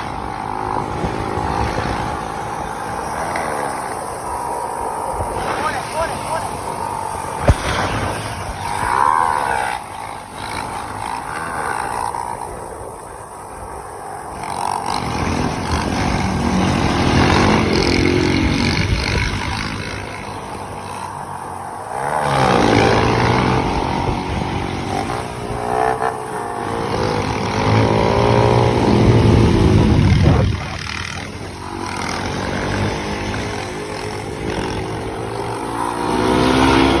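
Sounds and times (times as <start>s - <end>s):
motorcycles revving by: 0.0s - 37.0s.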